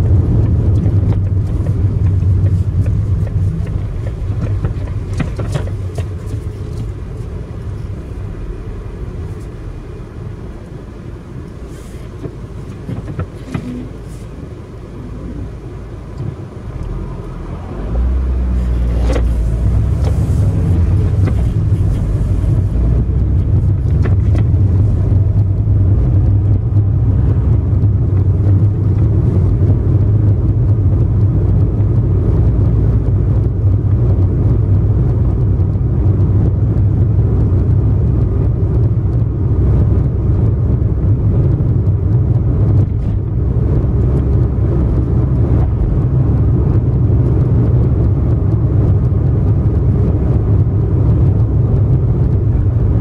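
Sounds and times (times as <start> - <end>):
car tyres and engine rumble: 0.0 - 53.0.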